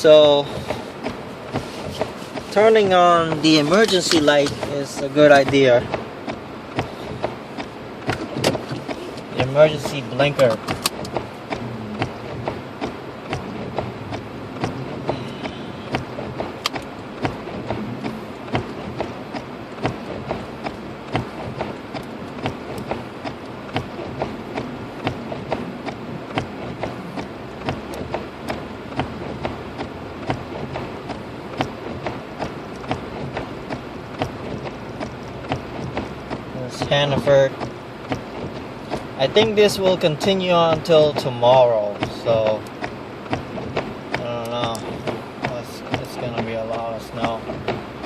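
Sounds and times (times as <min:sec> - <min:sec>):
engine and road noise hum: 0:00.0 - 0:48.0
hazard light flasher ticking: 0:00.0 - 0:48.0.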